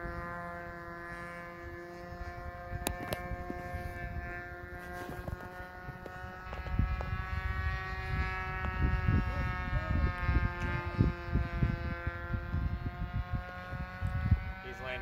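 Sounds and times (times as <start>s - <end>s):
distant model airplane engine drone: 0.0s - 15.0s
wind buffeting microphone: 0.0s - 15.0s.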